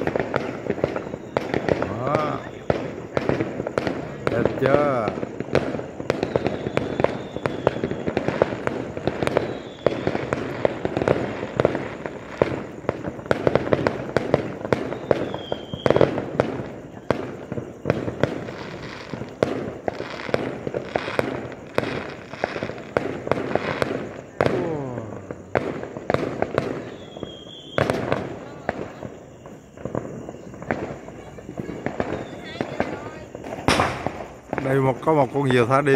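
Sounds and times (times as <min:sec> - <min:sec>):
fireworks bangs and crackling: 0:00.0 - 0:35.9
fireworks whistles: 0:00.0 - 0:35.9.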